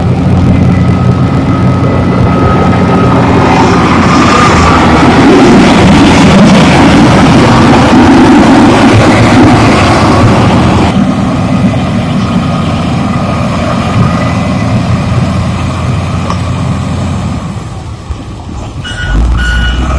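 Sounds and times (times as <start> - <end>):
diesel engine rumbling: 0.0 - 19.9.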